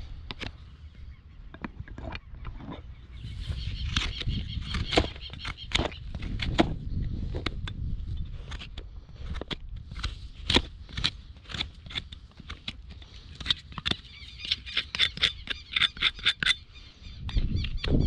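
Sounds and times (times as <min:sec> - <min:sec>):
knife scraping hoof: 0:01.6 - 0:17.0.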